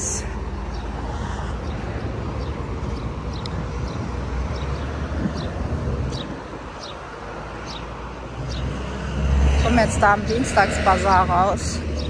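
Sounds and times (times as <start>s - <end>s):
road traffic rumble: 0.0s - 12.0s
wind on microphone: 1.4s - 12.0s.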